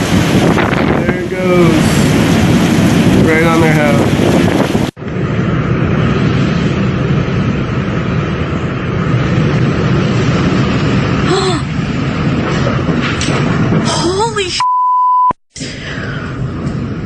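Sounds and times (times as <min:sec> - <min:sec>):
strong wind buffeting microphone: 0:00.0 - 0:14.5, 0:15.6 - 0:17.0.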